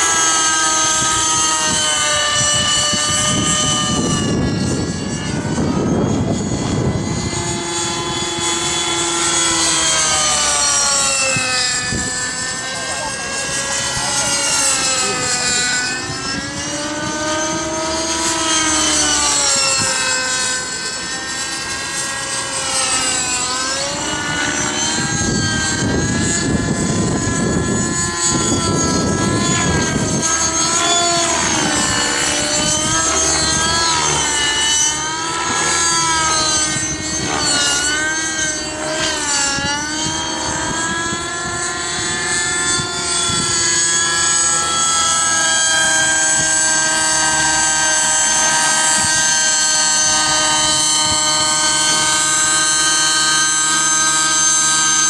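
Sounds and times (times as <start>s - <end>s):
rc helicopter engine and rotors whining: 0.0s - 55.0s
wind rumbling on microphone: 0.0s - 55.0s.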